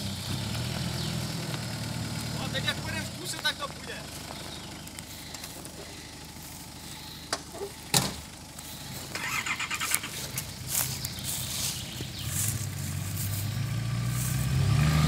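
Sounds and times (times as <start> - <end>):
vehicle engines at low revs: 0.0 - 15.0.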